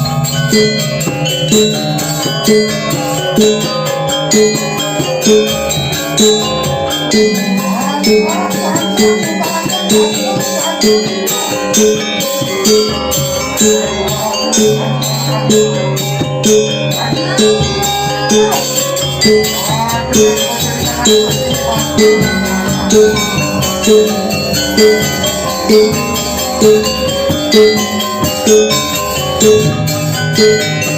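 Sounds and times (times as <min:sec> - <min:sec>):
bell-like music parts: 0:00.0 - 0:30.9
pitched percussion stroke: 0:00.0 - 0:30.9.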